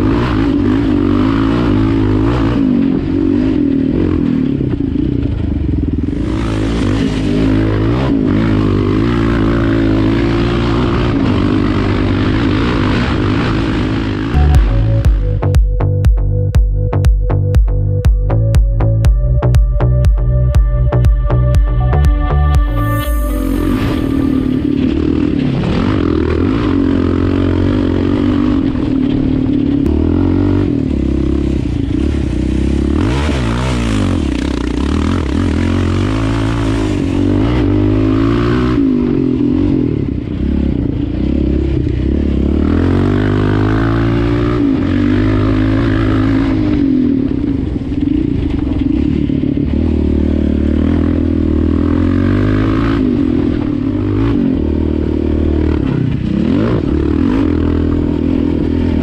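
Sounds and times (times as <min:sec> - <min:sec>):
quad engine revving under load: 0:00.0 - 0:15.4, 0:23.5 - 0:59.0.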